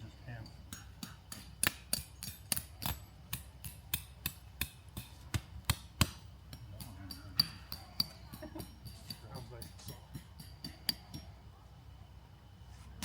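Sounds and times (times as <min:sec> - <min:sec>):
mallet hammering tent peg: 0:00.4 - 0:11.3.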